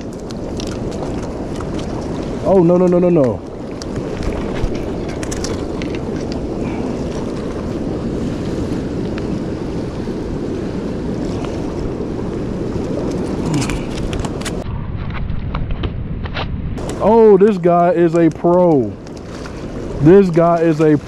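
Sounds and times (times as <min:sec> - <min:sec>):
rushing water roar: 0:00.0 - 0:14.6, 0:16.8 - 0:21.0.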